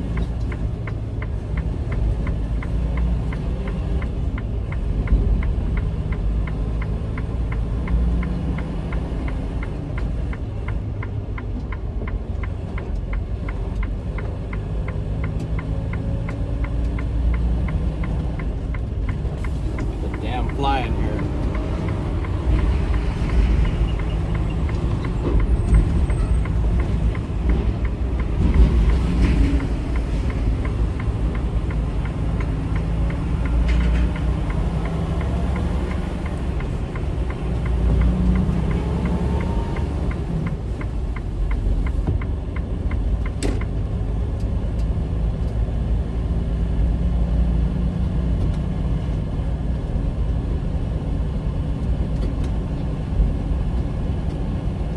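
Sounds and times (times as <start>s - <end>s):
truck diesel engine running: 0.0s - 48.3s
road noise: 0.0s - 54.9s.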